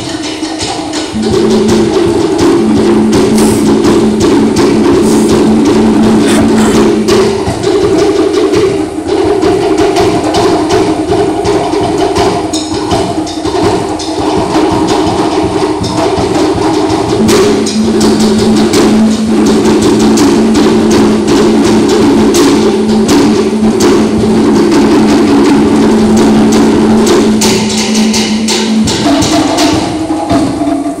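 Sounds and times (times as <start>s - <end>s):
wooden slit drums struck rapidly: 0.0s - 31.0s.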